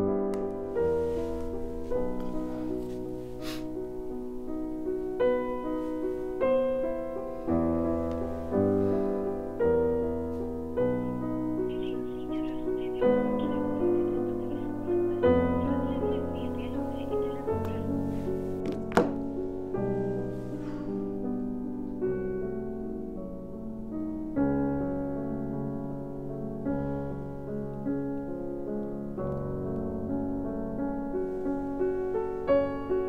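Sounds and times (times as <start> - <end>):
slow piano chords: 0.0 - 33.0.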